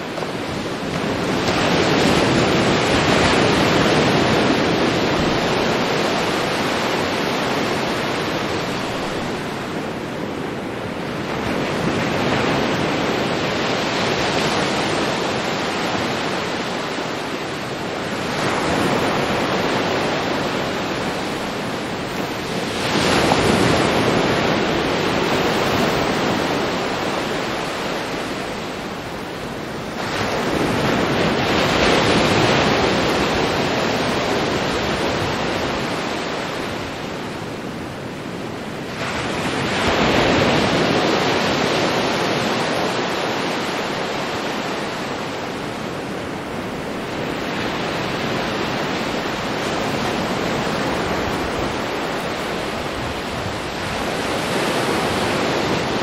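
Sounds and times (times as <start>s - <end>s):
ocean waves rushing: 0.0s - 56.0s.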